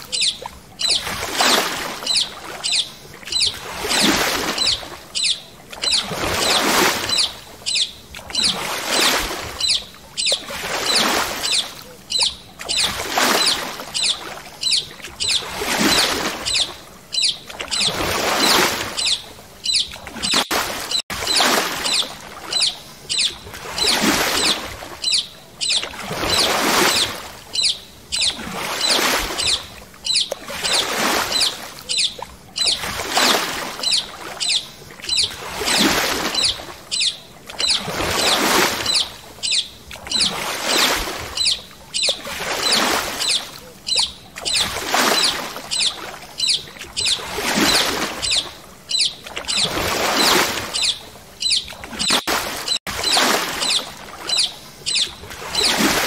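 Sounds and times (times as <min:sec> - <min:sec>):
paddle strokes splashing: 0:00.0 - 0:56.0.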